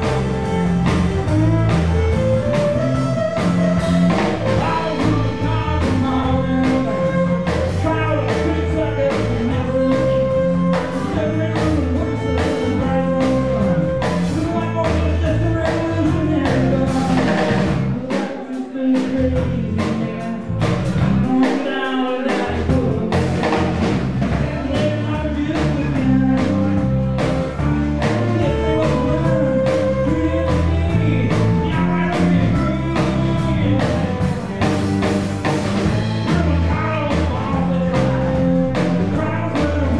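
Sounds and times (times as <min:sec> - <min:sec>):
violin: 0:00.0 - 0:17.6, 0:24.4 - 0:39.9
bass: 0:00.0 - 0:39.9
drum kit: 0:00.0 - 0:39.9
man singing lead vocal: 0:03.8 - 0:35.1, 0:35.8 - 0:39.9.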